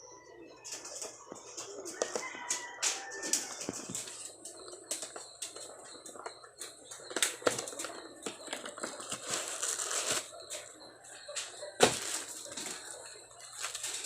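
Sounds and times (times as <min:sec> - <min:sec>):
packaging crinkling and rustling: 0:02.0 - 0:10.7, 0:11.3 - 0:14.0.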